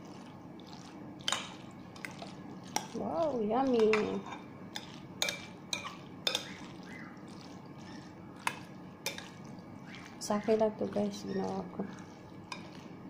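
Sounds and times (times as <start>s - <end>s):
spoon stirring wet salad: 0.0s - 13.0s.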